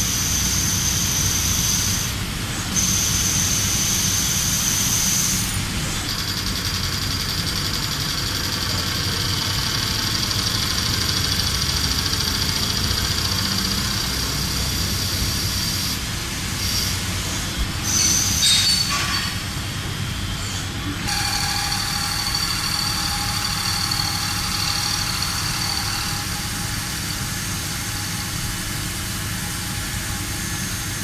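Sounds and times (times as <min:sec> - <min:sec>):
machine high-pitched whine: 0:00.0 - 0:31.0.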